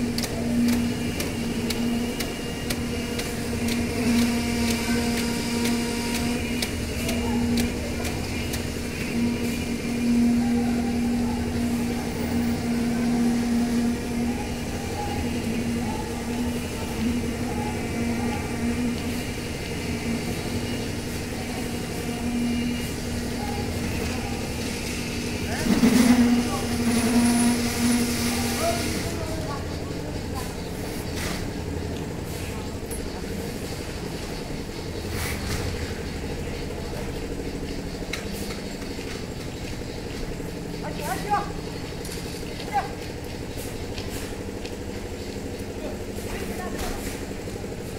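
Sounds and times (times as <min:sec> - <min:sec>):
concrete mixer engine running: 0:00.0 - 0:47.9
construction machinery humming: 0:00.0 - 0:47.9.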